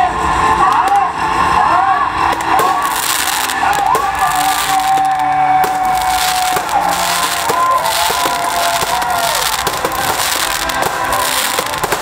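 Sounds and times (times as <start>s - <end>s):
crowd cheering and whooping: 1.5s - 12.0s
fireworks crackling: 2.1s - 12.0s.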